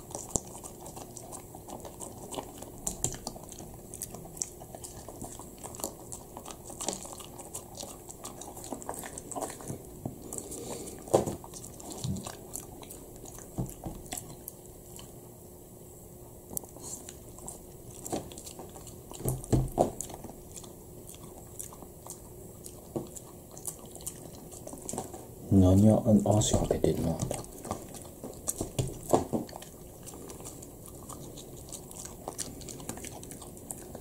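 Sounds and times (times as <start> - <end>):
dog crunching dry kibble: 0.0 - 15.1, 16.6 - 34.0.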